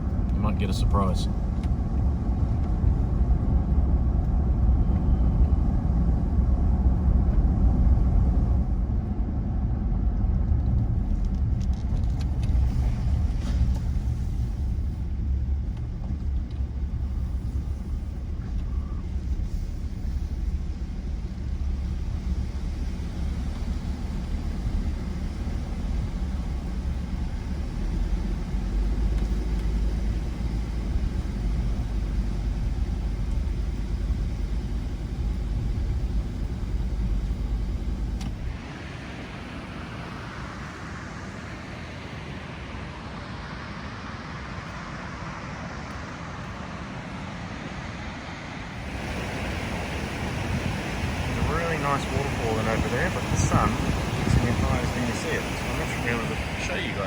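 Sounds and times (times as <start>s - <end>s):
pickup truck engine and road rumble: 0.0s - 57.0s.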